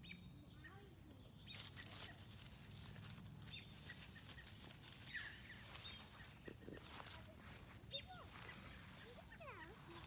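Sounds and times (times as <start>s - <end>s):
rustling steps through grass: 1.1s - 10.0s.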